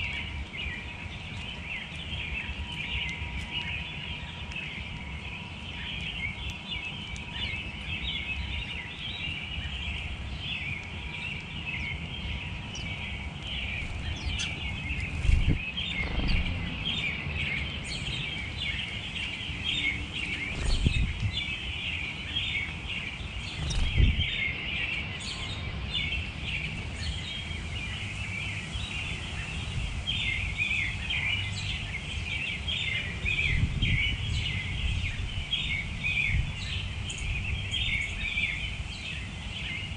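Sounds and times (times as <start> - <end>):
low outdoor rumble: 0.0 - 39.9
small birds chirping: 0.0 - 39.9.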